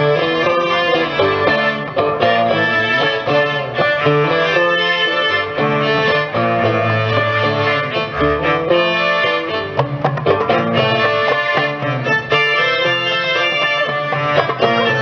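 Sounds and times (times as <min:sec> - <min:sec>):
hand drum: 0:00.0 - 0:15.0
plucked saz melody: 0:00.0 - 0:15.0
strings: 0:00.0 - 0:15.0.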